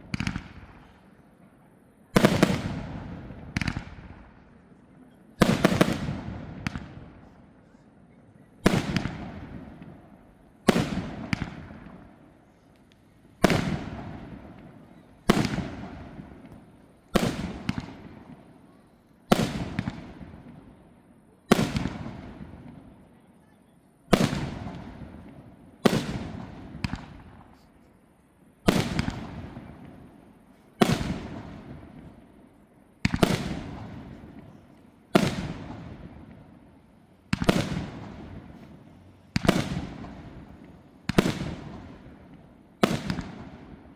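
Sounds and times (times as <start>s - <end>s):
fireworks banging: 0.0s - 1.1s, 2.1s - 4.5s, 5.4s - 7.4s, 8.6s - 20.9s, 21.5s - 23.0s, 24.1s - 27.7s, 28.6s - 43.9s.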